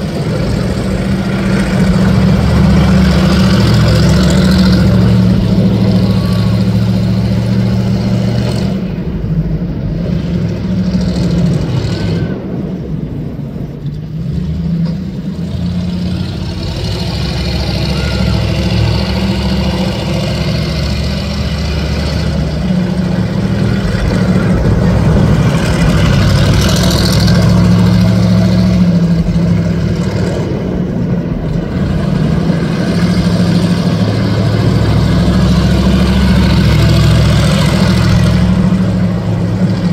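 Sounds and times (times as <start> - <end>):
car engines idling: 0.0 - 39.9.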